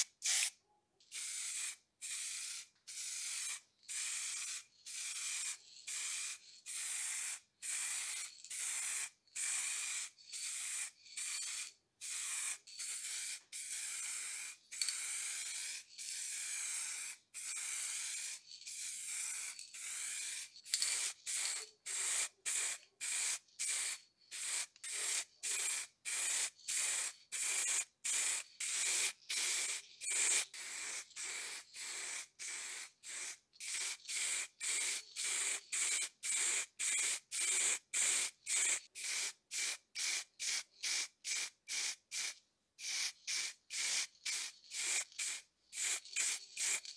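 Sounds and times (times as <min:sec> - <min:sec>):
spray paint hissing in bursts: 0:00.0 - 0:46.9.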